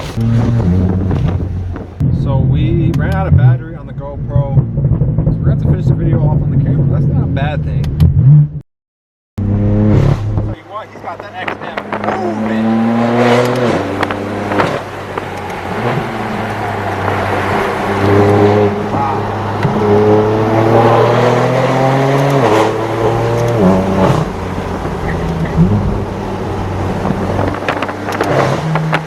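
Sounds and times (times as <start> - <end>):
car engine accelerating: 0.0 - 8.6, 9.4 - 29.0.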